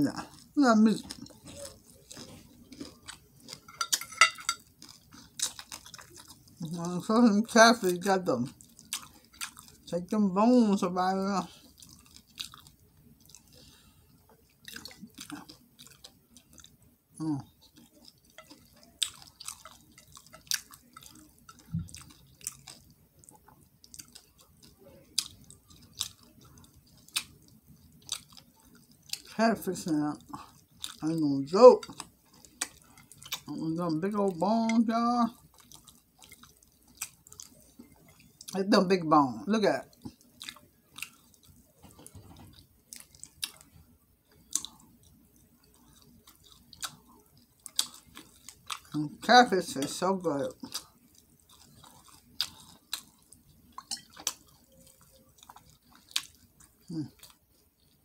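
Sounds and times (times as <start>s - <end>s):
chewing with wet smacking: 0.1s - 38.7s, 39.3s - 58.0s.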